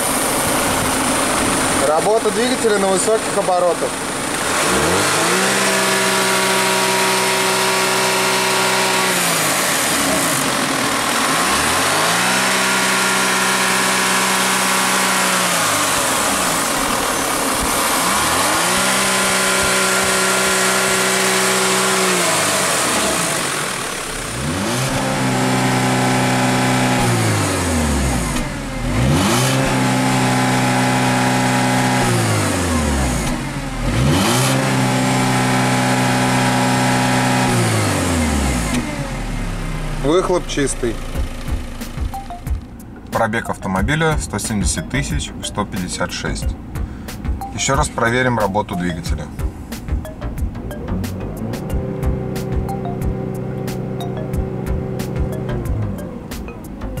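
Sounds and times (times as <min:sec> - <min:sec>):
car engine idling: 0:00.0 - 0:57.0
car engine revving: 0:00.0 - 0:57.0.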